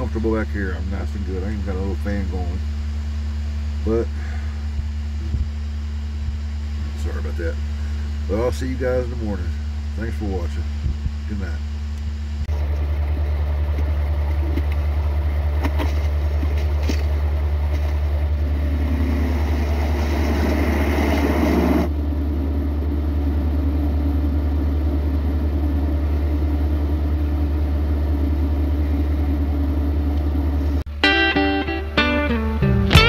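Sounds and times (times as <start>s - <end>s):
motor humming: 2.4s - 31.2s.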